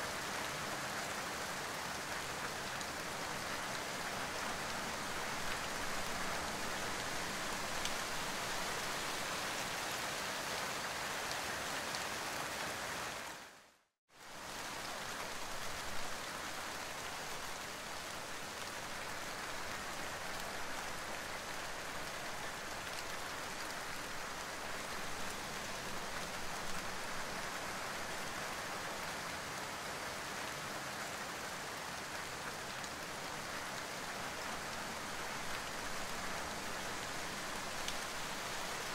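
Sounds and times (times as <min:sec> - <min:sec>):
rain falling steadily: 0:00.0 - 0:38.9.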